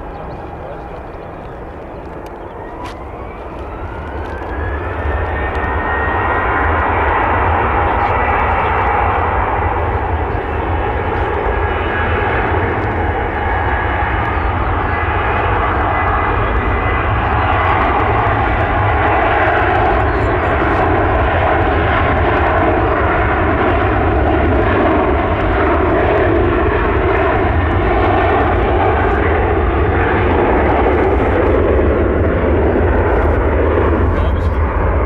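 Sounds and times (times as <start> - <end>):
faint engine whine: 0.0 - 35.0
jet engines roaring: 0.0 - 35.0.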